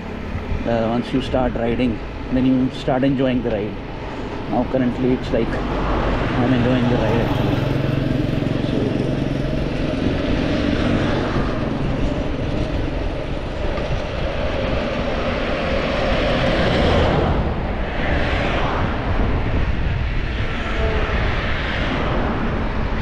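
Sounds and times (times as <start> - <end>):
bike tyre and road noise: 0.0 - 23.0
wind rushing over microphone: 0.0 - 23.0.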